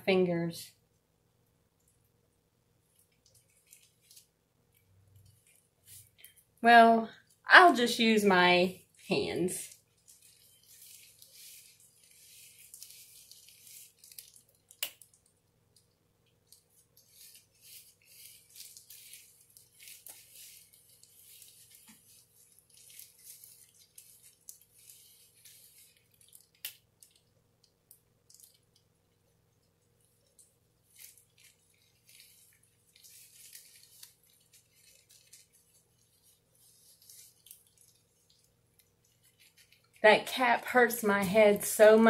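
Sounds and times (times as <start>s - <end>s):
gloved fingers swishing through wet hair: 3.0s - 15.4s, 16.5s - 27.4s, 29.6s - 42.0s.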